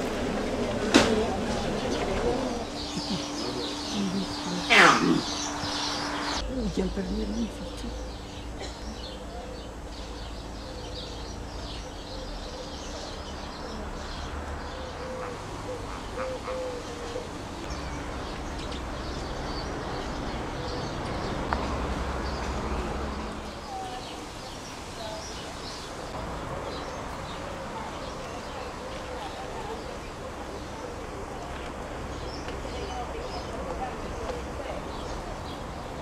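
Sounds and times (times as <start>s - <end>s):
small birds chirping: 1.2s - 36.0s.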